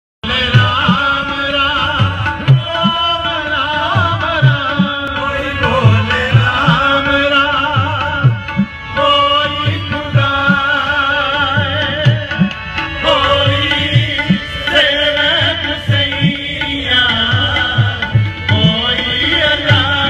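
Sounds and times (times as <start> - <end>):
tabla drumming: 0.2 - 20.0
harmonium held reed tones: 0.5 - 20.0.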